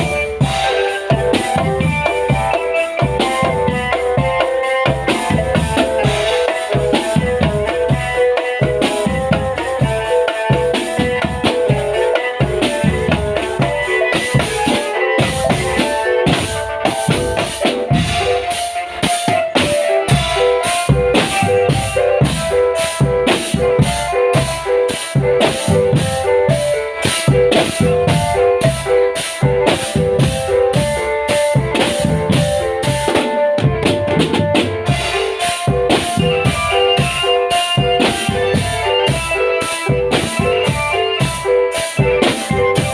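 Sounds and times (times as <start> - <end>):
bass and snare drums marching: 0.0 - 42.9
wind or keyboard melody: 0.0 - 42.9.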